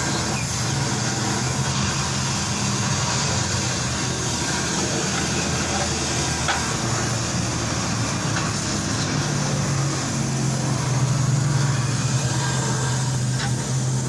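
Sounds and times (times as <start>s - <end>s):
arc welding hiss: 0.0s - 14.0s
welder low hum: 0.0s - 14.0s.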